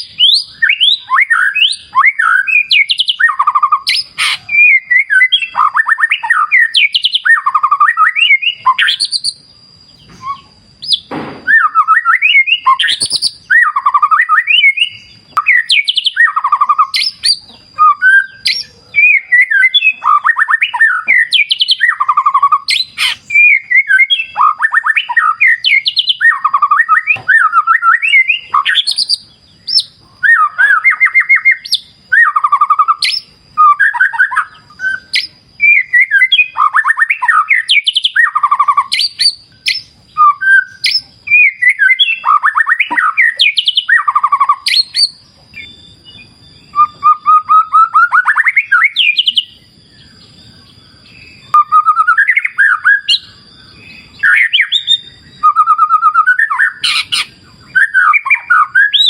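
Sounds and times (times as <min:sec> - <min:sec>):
bird singing whistled phrases: 0:00.0 - 0:59.0.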